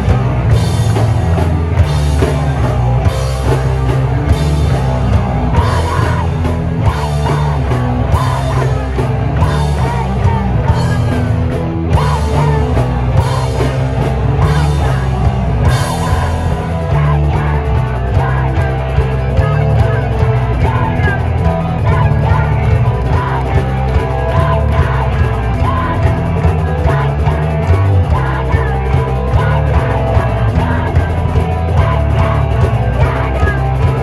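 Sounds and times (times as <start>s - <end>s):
bass: 0.0s - 34.0s
drums: 0.0s - 34.0s
guitars: 0.0s - 34.0s
sung and shouted vocals: 0.0s - 34.0s.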